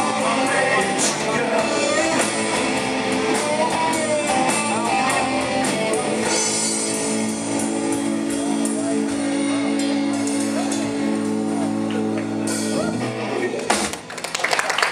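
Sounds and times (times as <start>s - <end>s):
electric guitar lead: 0.0s - 14.1s
rock band playing: 0.0s - 14.5s.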